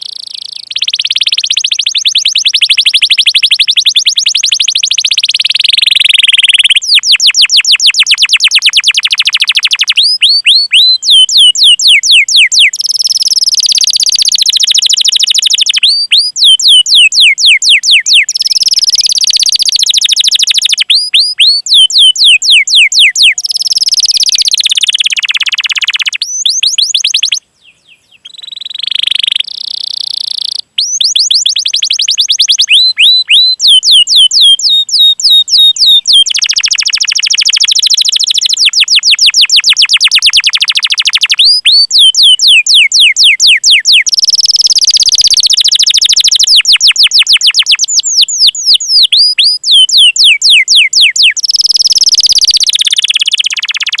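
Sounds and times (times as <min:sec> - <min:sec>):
canary call notes: 0:00.0 - 0:54.0
canary trills: 0:00.0 - 0:54.0.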